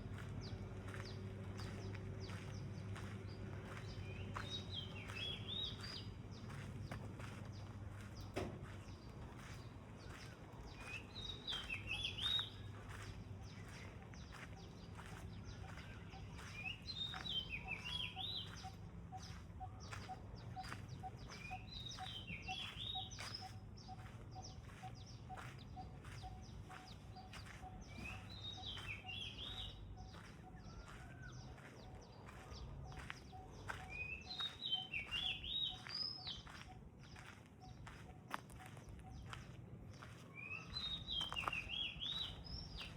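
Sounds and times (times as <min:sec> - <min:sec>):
low steady hum: 0:00.0 - 0:42.9
songbird singing: 0:00.0 - 0:42.9.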